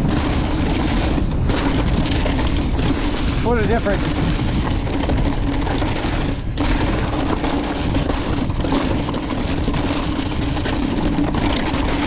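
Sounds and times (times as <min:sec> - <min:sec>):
bike tyres crunching over gravel: 0:00.0 - 0:12.0
wind buffeting microphone: 0:00.0 - 0:12.0.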